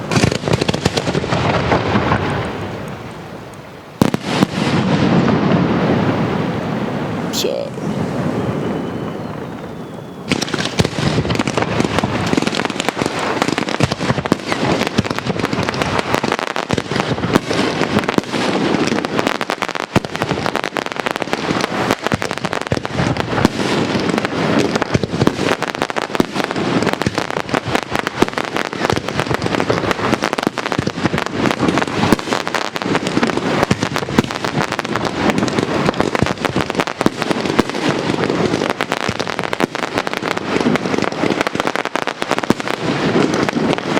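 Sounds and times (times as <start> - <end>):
fireworks bursts and crackling: 0.0 - 43.9.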